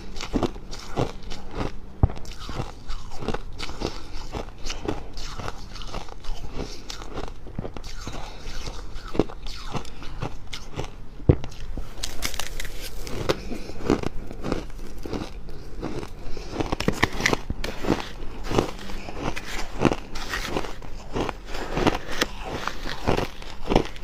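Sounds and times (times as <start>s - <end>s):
frost being chewed crunching: 0.0s - 24.0s.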